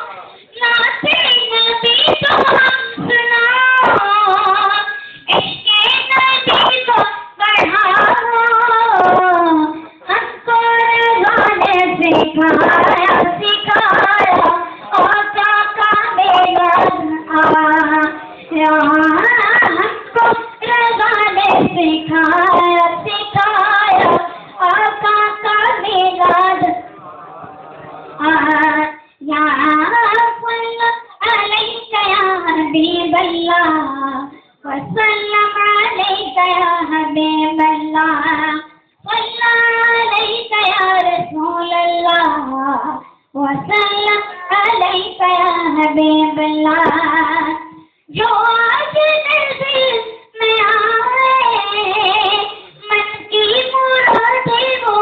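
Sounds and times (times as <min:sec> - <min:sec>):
boy singing unaccompanied: 0:00.4 - 0:26.9, 0:28.2 - 0:55.0.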